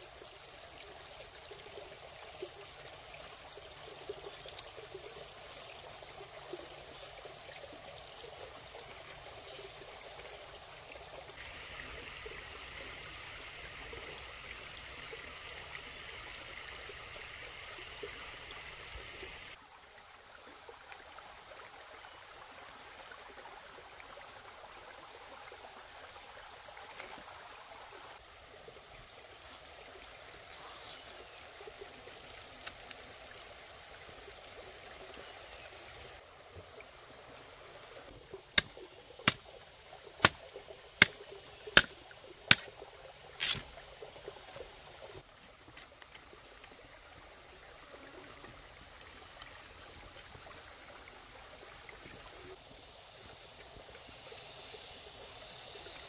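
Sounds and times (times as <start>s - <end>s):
insects chirring: 0.0s - 19.6s, 24.3s - 56.0s
stream water running: 0.0s - 56.0s.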